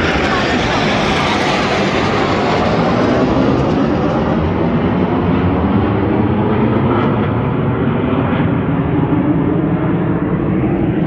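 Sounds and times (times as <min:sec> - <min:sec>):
military jets flying overhead: 0:00.0 - 0:11.0.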